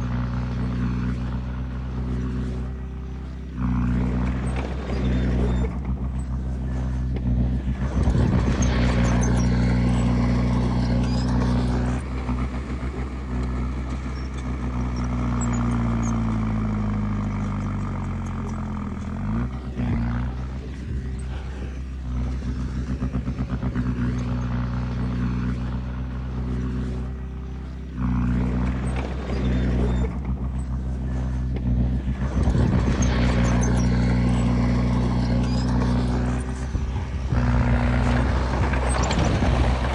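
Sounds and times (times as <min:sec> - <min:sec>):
heavy diesel engine running: 0:00.0 - 0:39.9
machinery clatter: 0:00.0 - 0:39.9.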